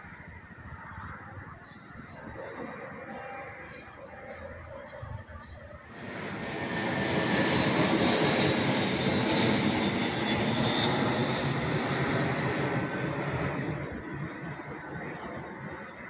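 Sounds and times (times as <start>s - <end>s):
faint high engine whine: 0.0s - 16.0s
jet airliner flying overhead: 0.0s - 16.0s.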